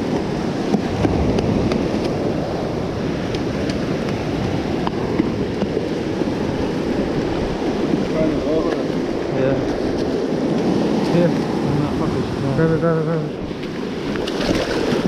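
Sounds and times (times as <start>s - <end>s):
waves breaking on sand: 0.0s - 15.0s
wind on microphone: 0.0s - 15.0s.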